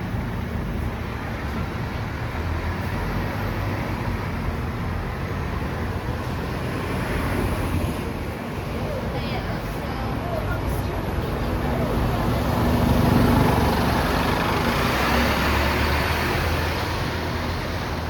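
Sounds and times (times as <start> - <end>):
bus engine rumble: 0.0 - 18.0
road noise: 0.0 - 18.0.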